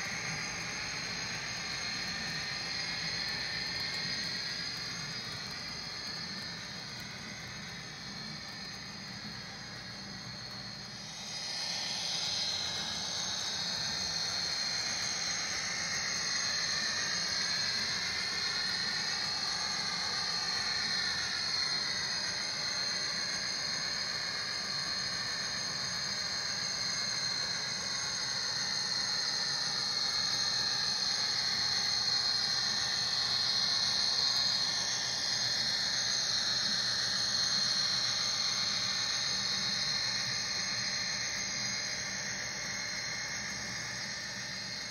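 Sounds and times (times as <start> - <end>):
model train whining: 0.0 - 44.9.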